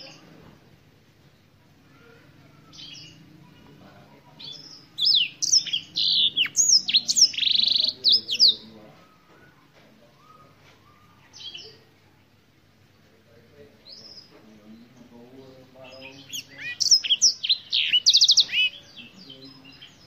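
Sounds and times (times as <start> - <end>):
canary singing: 0.0 - 0.4, 1.3 - 12.6, 13.6 - 20.0.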